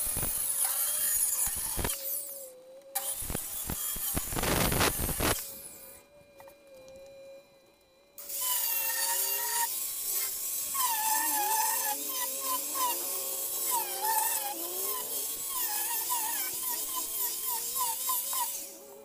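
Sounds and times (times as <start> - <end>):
angle grinder motor whine: 0.0 - 19.0.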